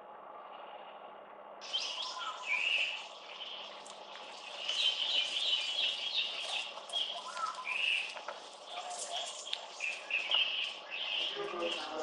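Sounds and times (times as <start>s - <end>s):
bird chirps and gliding calls: 1.6s - 12.0s.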